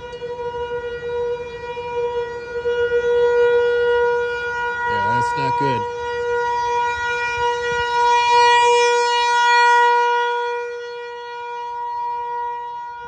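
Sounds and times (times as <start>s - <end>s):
tornado siren wailing: 0.0s - 13.0s.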